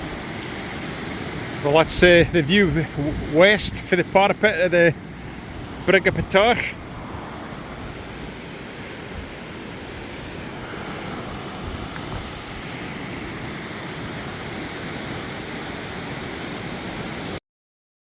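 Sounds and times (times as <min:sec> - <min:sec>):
wind buffeting microphone: 0:00.0 - 0:15.0
river water rushing: 0:00.0 - 0:17.4.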